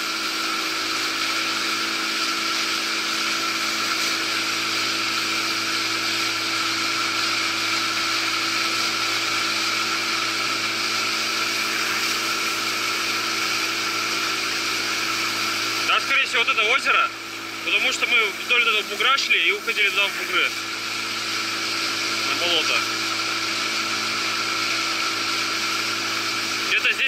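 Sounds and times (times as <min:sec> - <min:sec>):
boat motor droning: 0:00.0 - 0:27.0.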